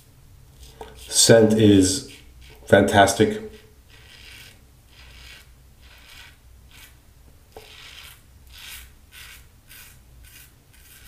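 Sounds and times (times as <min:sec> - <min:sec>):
razor scraping stubble: 0:00.6 - 0:07.0, 0:07.6 - 0:11.0.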